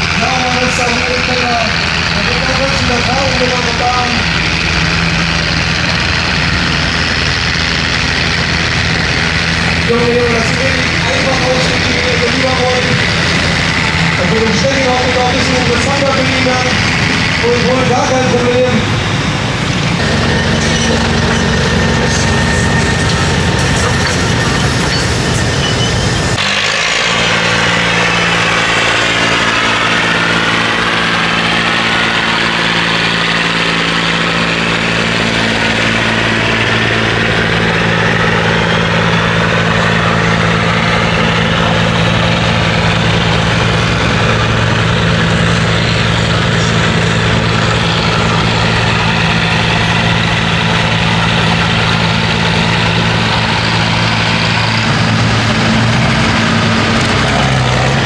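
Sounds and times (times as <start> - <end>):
tractor engine running loudly: 0.0 - 58.0.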